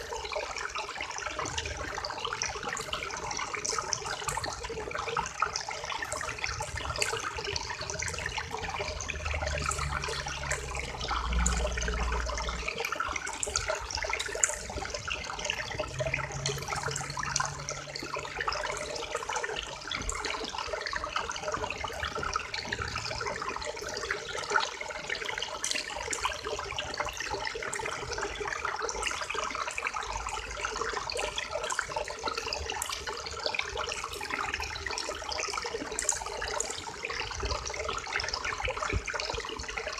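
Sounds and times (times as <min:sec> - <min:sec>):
river water flowing: 0:00.0 - 0:39.9
small splashes and gurgles: 0:00.0 - 0:39.9.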